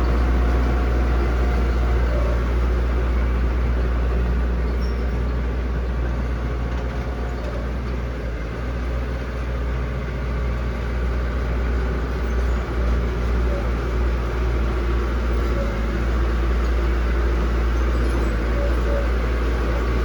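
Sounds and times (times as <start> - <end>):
diesel machinery engine rumble: 0.0 - 20.0.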